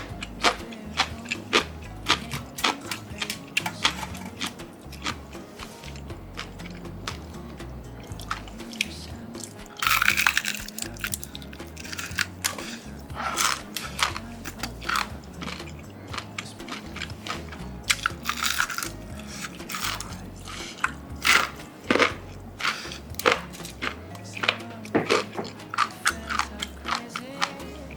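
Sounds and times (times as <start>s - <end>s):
background music: 0.0s - 27.9s
crunching and chewing fried chicken: 0.0s - 27.9s.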